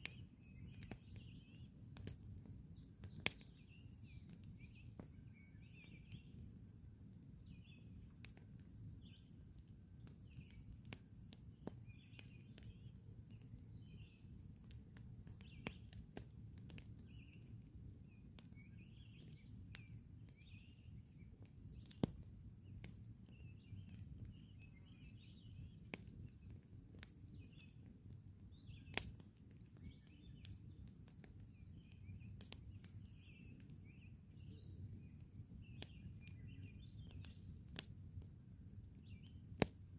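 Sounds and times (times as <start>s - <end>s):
campfire crackling: 0.0s - 39.9s
small birds chirping: 0.0s - 39.9s.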